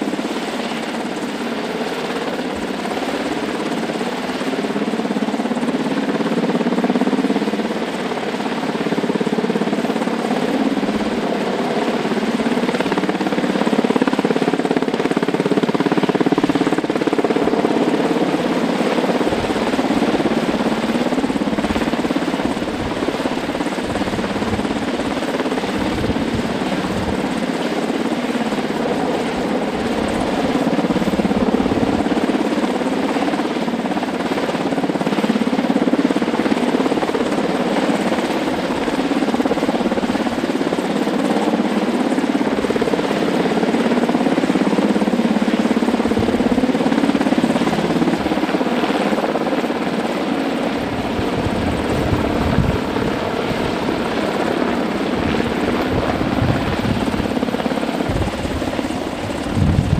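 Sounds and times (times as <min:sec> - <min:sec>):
helicopter hovering overhead: 0:00.0 - 0:59.9.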